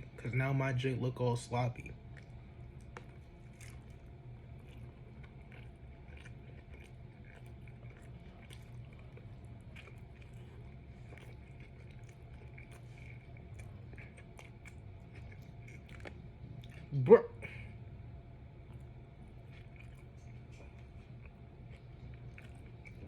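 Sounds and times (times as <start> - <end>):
steady low hum: 0.0 - 23.0
close-up chewing: 1.7 - 23.0.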